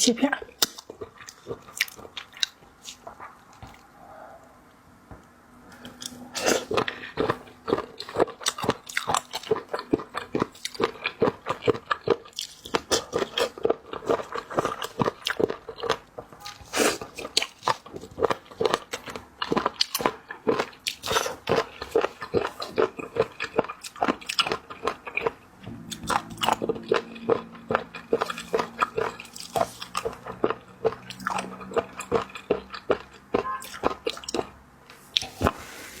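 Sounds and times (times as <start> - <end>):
person biting and chewing: 0.6 - 3.9, 5.8 - 35.7.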